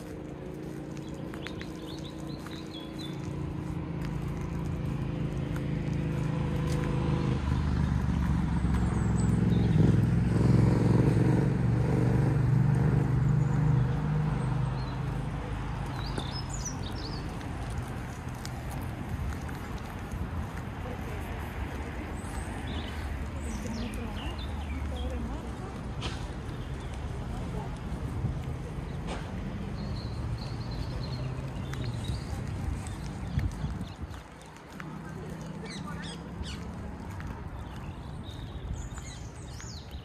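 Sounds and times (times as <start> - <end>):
vehicle engine passing: 0.0 - 39.4
birds chirping: 0.4 - 10.3, 12.9 - 40.0.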